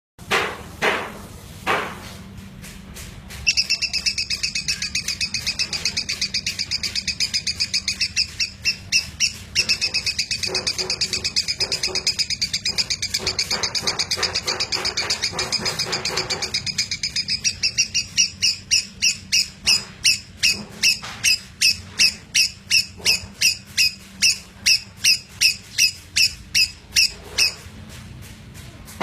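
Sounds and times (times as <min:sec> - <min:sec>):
bird chattering trill: 0:03.4 - 0:27.7.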